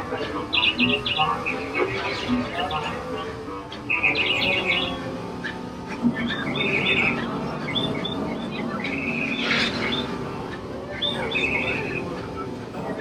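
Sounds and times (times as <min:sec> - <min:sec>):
low background murmur: 0:00.0 - 0:13.0
small birds chirping: 0:00.0 - 0:13.0.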